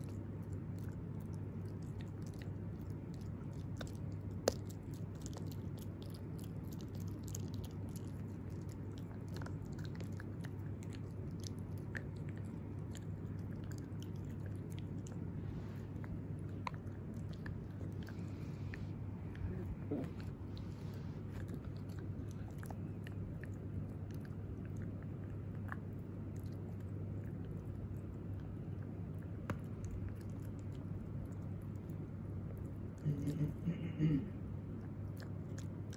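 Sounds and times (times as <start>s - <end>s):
teeth clicking on chew: 0.0s - 15.3s, 15.9s - 20.7s, 21.3s - 33.6s, 34.7s - 35.9s
puppy chewing a dental chew: 0.0s - 33.6s, 34.4s - 35.9s.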